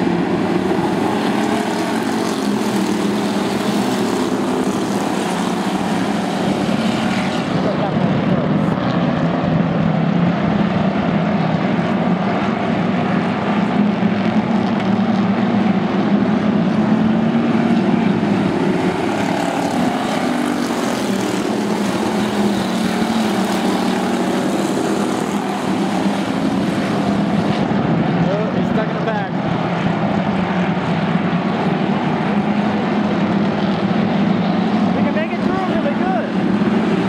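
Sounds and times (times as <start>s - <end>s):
race car engines droning: 0.0s - 37.0s.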